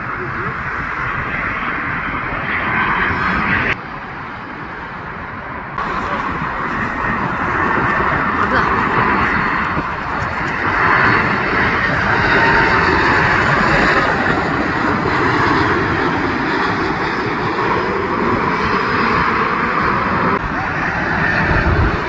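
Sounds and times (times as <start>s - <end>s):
airliner engine noise: 0.0s - 22.0s.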